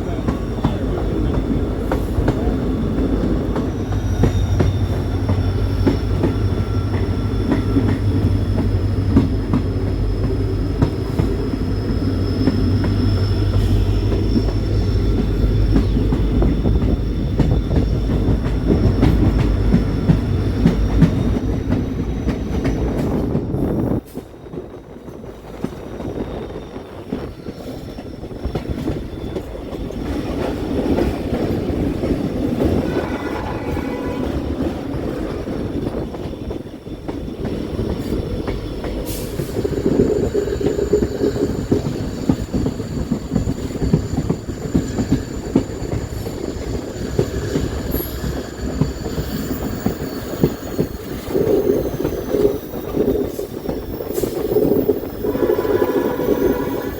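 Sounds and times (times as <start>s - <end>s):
train rumbling on rails: 0.0s - 56.9s
high wheel squeal: 2.1s - 22.9s, 30.7s - 56.9s.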